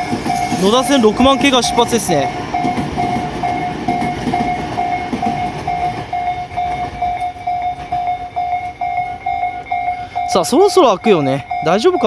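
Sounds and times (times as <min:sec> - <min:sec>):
electric train rumbling: 0:00.0 - 0:12.0
level-crossing bell ringing: 0:00.0 - 0:12.0.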